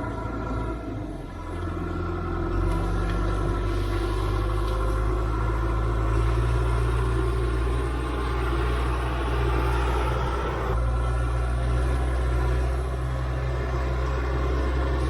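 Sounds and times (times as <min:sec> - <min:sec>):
heavy equipment engine running: 0:00.0 - 0:15.0.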